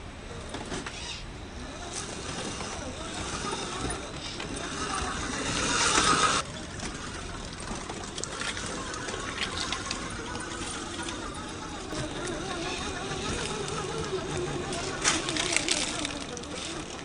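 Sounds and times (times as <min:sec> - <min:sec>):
electric motor whining: 0:00.4 - 0:06.5, 0:07.9 - 0:17.0.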